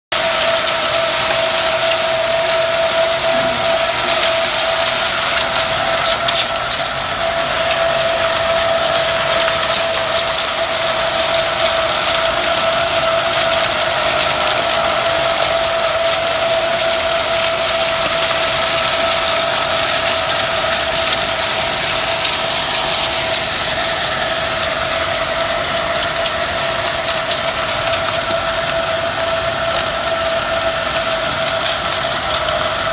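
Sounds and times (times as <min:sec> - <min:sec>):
blades hissing on wet concrete: 0:00.1 - 0:32.9
power trowel motor whine: 0:00.1 - 0:32.9.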